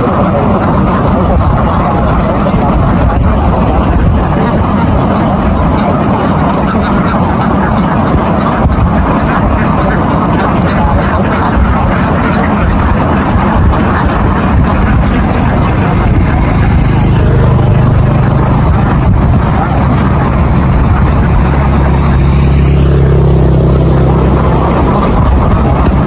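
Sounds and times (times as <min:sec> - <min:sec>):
motor engine humming: 0:00.0 - 0:26.0.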